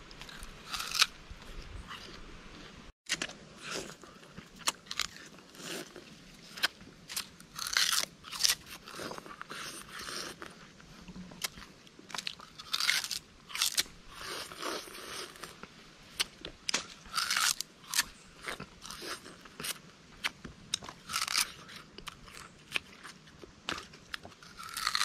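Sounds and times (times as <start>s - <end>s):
sugar cane being chewed: 0.1s - 25.0s.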